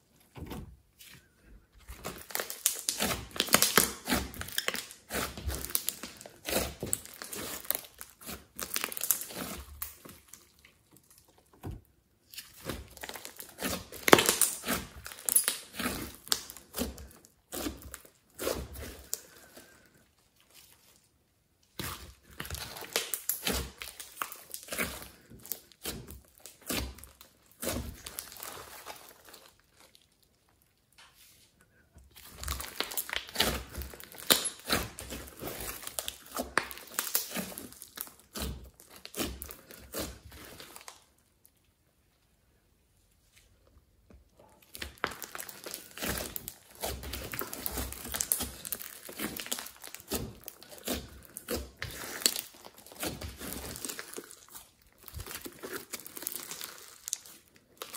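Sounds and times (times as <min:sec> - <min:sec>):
wet slime crackling and popping: 0:01.8 - 0:31.0, 0:32.1 - 0:42.2, 0:43.7 - 0:57.9.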